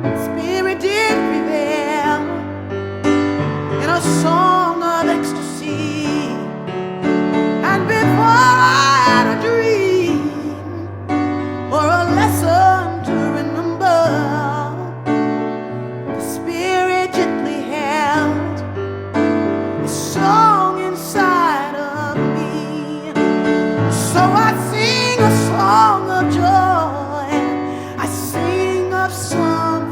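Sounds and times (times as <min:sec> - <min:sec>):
gospel song with keyboard: 0:00.0 - 0:29.9.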